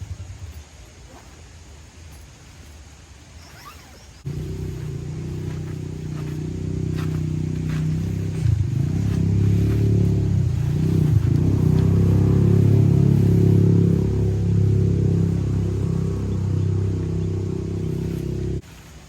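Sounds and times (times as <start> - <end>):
faint outdoor background: 0.0 - 19.0
vehicle engine humming: 1.6 - 19.0.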